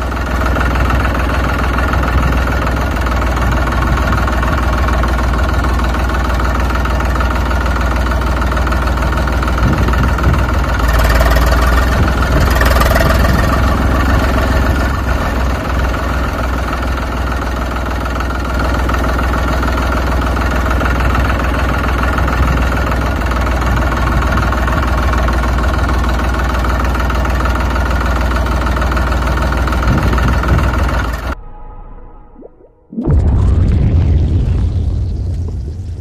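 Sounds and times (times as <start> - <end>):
tractor engine rumbling: 0.0 - 36.0.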